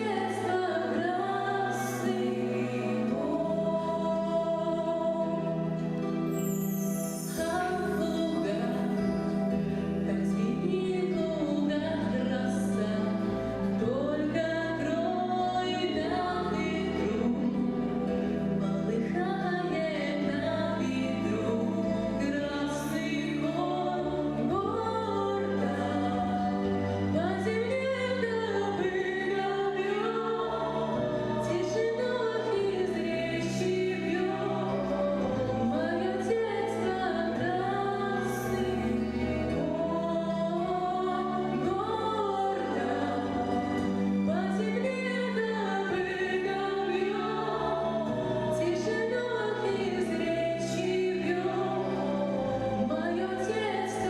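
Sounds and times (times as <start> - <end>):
children singing: 0.0 - 5.8, 7.3 - 54.0
instrumental accompaniment: 0.0 - 54.0.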